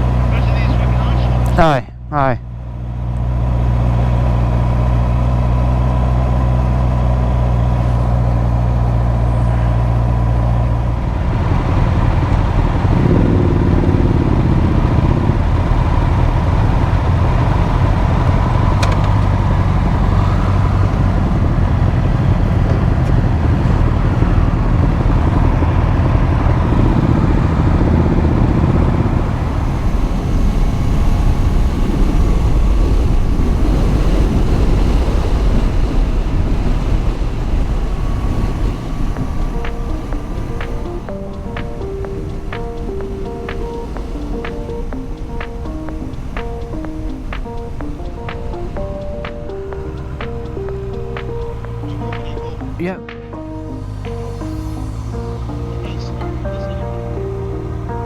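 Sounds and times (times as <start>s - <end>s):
motorcycle engine: 0.0s - 58.0s
wind noise: 3.8s - 58.0s.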